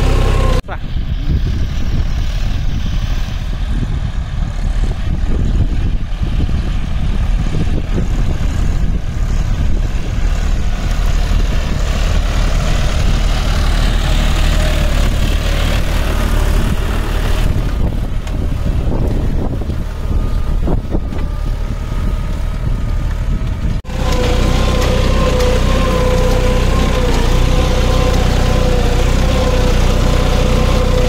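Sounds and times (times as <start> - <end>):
tractor engine under load: 0.0 - 31.0.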